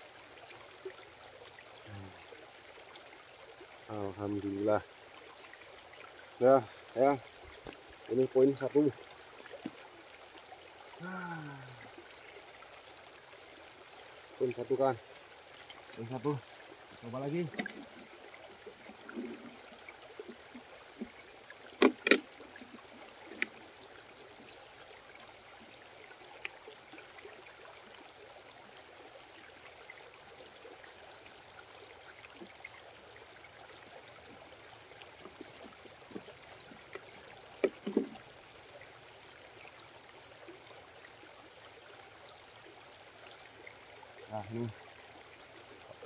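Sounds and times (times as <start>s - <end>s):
background hiss: 0.0s - 46.0s.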